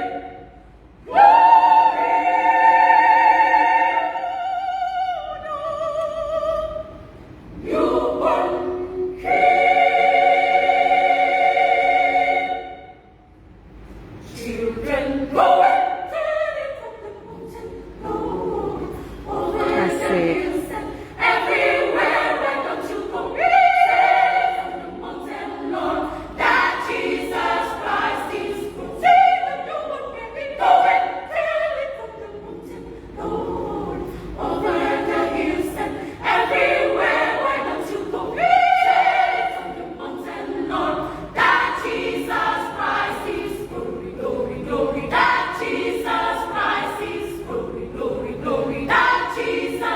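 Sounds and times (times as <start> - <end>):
women's choir singing: 0.0 - 13.2, 14.0 - 49.9.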